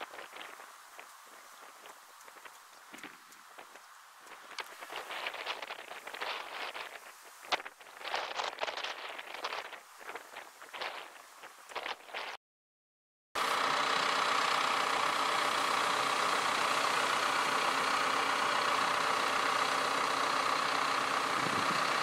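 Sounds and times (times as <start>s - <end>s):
tractor engine under load: 0.0s - 12.4s, 13.4s - 22.0s.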